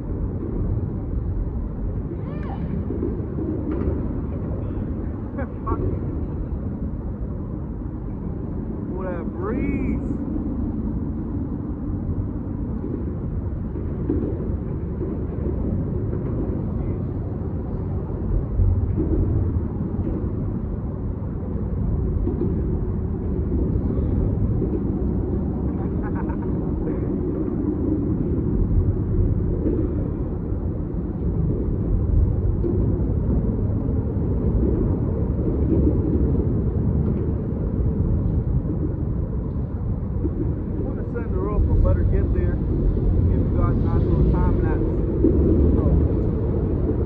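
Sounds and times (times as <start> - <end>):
wind rumble on microphone: 0.0 - 47.0.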